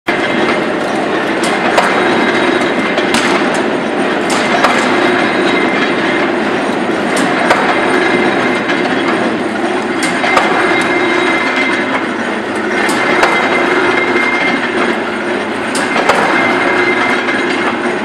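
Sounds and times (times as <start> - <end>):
briquette press clattering: 0.1 - 18.0.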